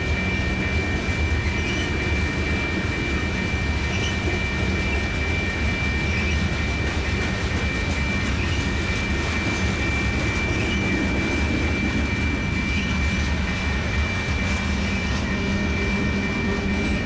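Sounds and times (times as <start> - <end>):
high-pitched whine: 0.0 - 17.0
steel wheels rumbling on rail: 0.0 - 17.0.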